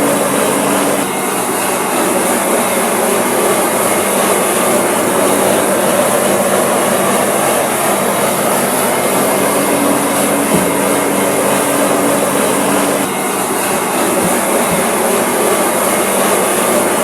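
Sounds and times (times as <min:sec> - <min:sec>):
loud machine noise: 0:00.0 - 0:17.0.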